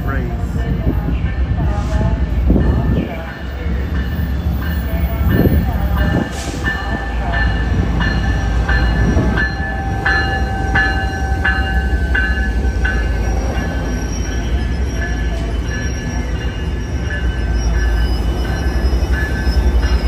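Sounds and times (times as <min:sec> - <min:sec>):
train engine and rail rumble: 0:00.0 - 0:20.0
locomotive bell ringing: 0:02.4 - 0:20.0.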